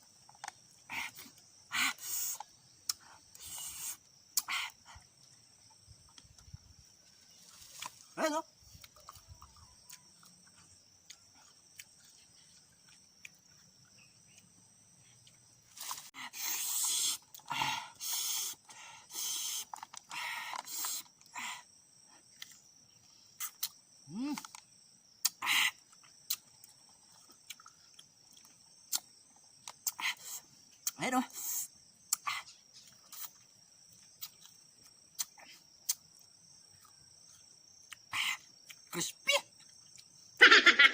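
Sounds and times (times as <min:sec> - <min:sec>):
crunchy chewing: 0:00.0 - 0:31.0, 0:31.7 - 0:38.9, 0:39.5 - 0:40.4.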